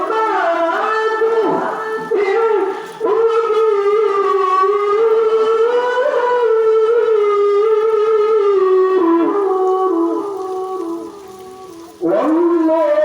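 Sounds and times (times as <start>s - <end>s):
person chanting a long high note: 0.0s - 13.0s.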